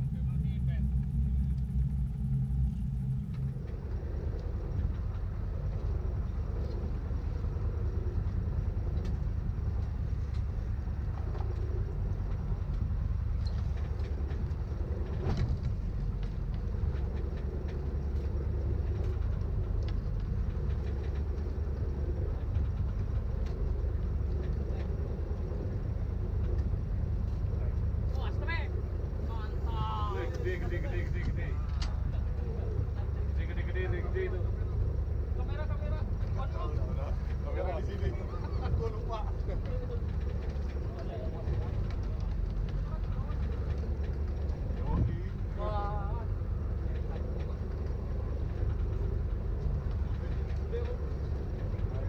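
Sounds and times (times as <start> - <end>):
boat low rumble: 0.0 - 52.0.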